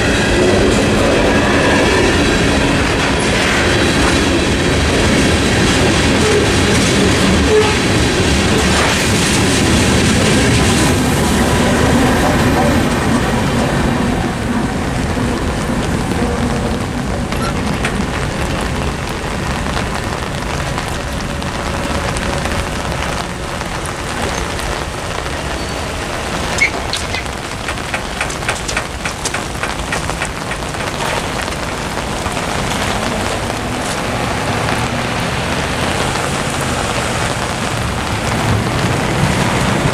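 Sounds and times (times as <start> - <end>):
rain on pavement and gravel: 0.0 - 39.9.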